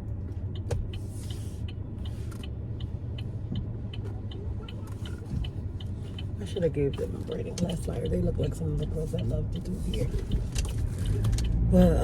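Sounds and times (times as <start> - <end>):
car engine and road rumble: 0.0 - 12.0
turn signal ticking: 0.0 - 12.0.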